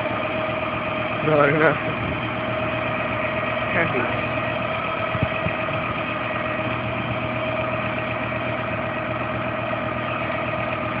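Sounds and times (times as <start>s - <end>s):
car engine idling: 0.0s - 11.0s
steady whine: 0.0s - 11.0s.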